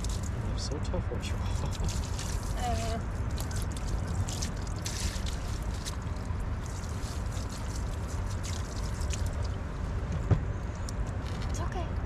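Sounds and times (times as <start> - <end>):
water pouring and splashing: 0.0 - 9.8
steady low rumble: 0.0 - 12.0.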